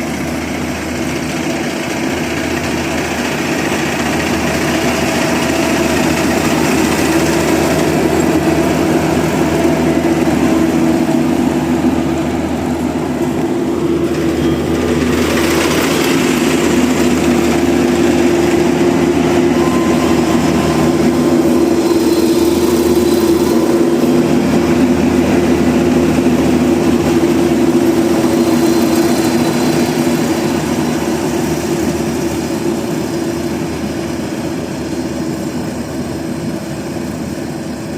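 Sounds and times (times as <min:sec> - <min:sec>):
combine harvester engine running: 0:00.0 - 0:37.9.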